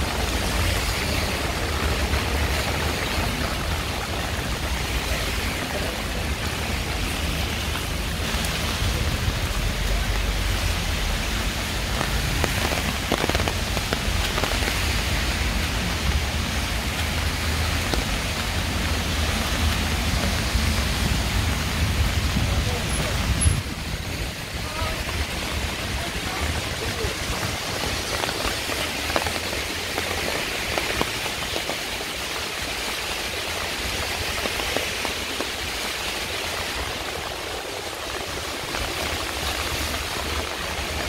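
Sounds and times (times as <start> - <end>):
heavy rain: 0.0 - 41.0.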